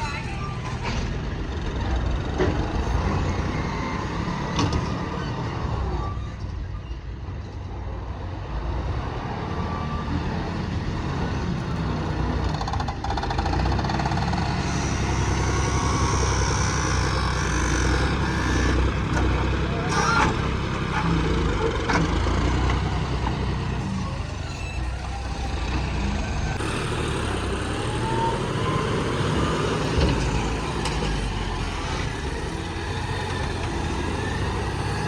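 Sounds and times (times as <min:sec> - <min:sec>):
diesel machinery running: 0:00.0 - 0:35.0.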